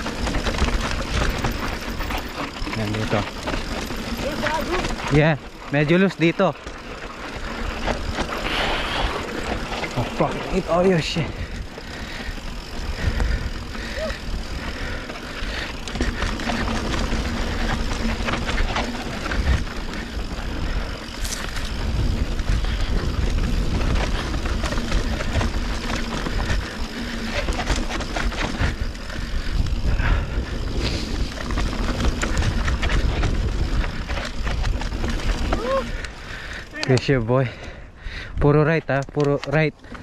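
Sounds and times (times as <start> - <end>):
bike rattling over bumps: 0.0 - 40.0
bike tyres crunching over dirt: 0.0 - 40.0
wind noise: 6.9 - 39.2.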